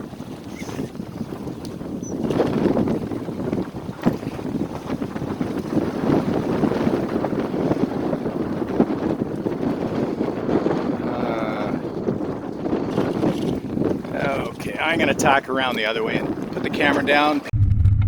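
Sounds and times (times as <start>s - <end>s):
water rushing along a hull: 0.0s - 17.5s
wind buffeting microphone: 0.0s - 18.0s.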